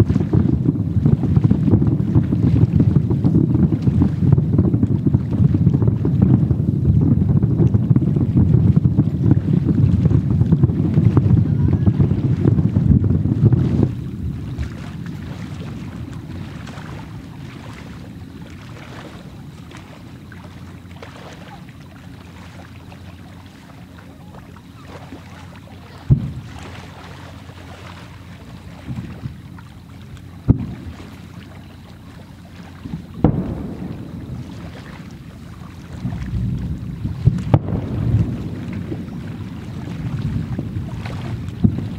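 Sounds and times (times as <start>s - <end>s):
distant fireworks booming: 0.0s - 22.6s, 24.0s - 41.9s
steady low rumble: 0.0s - 41.9s.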